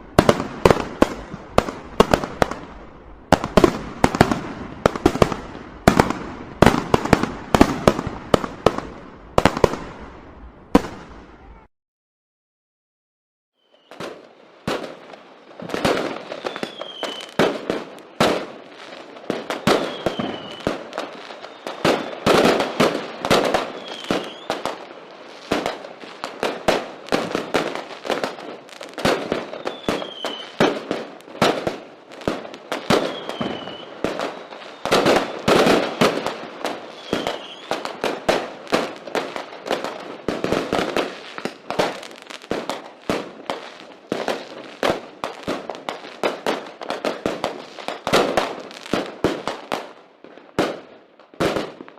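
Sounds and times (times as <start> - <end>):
fireworks bangs and crackles: 0.0 - 11.7, 13.7 - 51.9.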